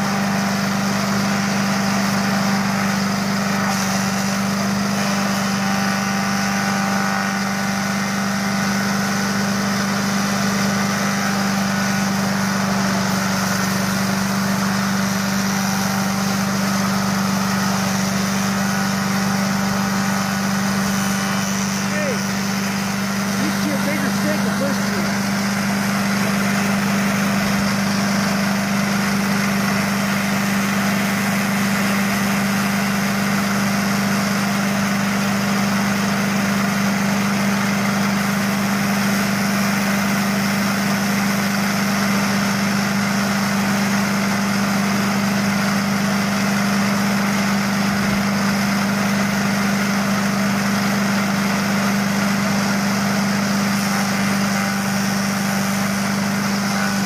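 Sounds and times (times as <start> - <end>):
small engine humming steadily: 0.0 - 57.0.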